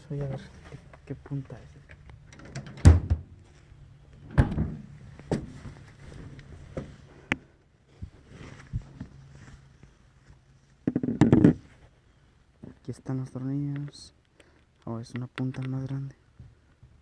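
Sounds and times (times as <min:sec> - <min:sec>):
faint low hum: 0:00.0 - 0:16.6.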